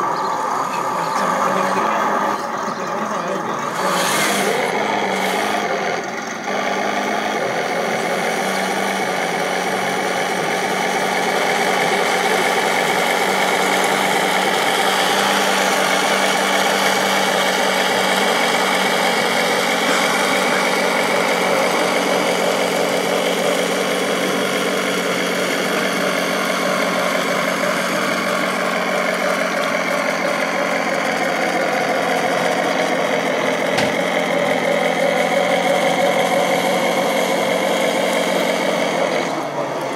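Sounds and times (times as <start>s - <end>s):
model tank motor drone: 0.0s - 39.9s.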